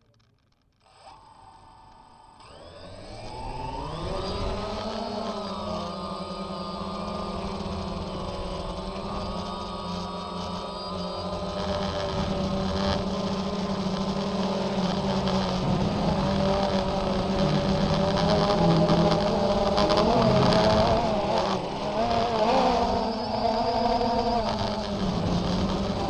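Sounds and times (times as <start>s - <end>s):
drone propellers buzzing: 0.8s - 26.0s.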